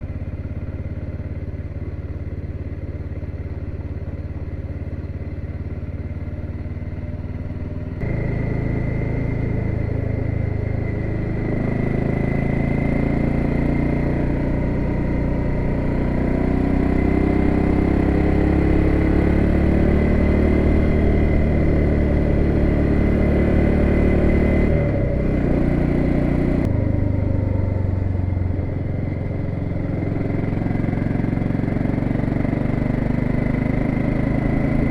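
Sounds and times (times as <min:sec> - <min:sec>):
motorcycle engine: 0:00.0 - 0:34.9.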